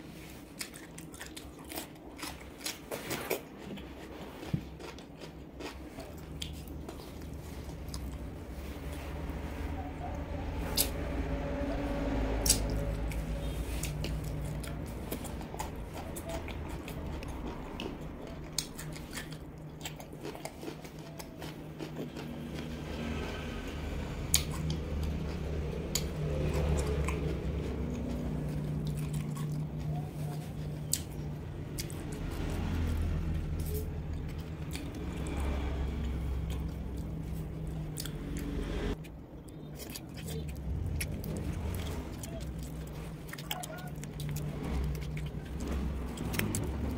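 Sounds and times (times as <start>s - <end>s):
low steady hum: 0.0s - 46.9s
person chewing and lip-smacking: 0.4s - 8.4s, 12.4s - 23.1s, 24.3s - 46.9s.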